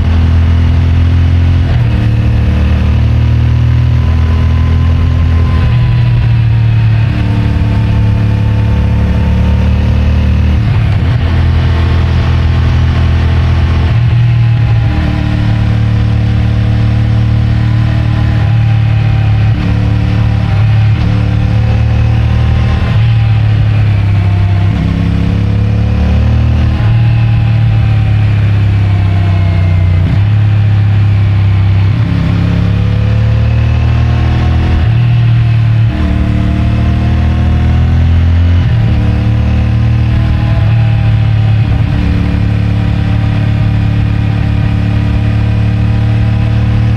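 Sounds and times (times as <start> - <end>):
motorcycle engine under throttle: 0.0 - 46.9.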